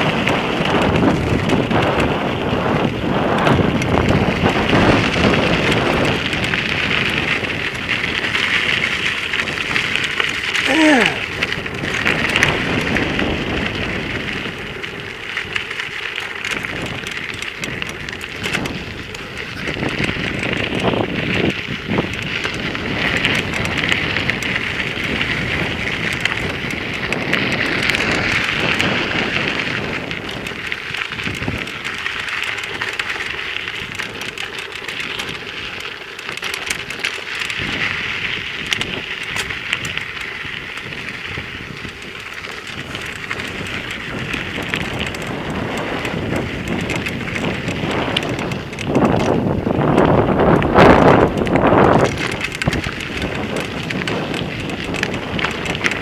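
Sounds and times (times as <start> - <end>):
bike tyres on gravel: 0.0 - 56.0
wind on microphone: 0.0 - 56.0.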